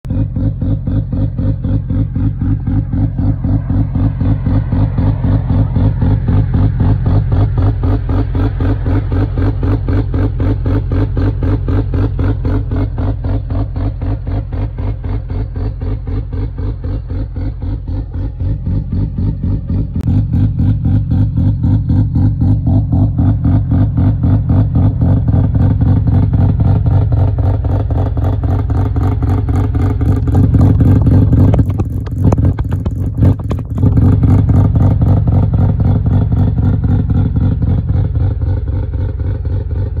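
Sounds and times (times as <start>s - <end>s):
rotary engine exhaust near idle: 0.0s - 40.0s.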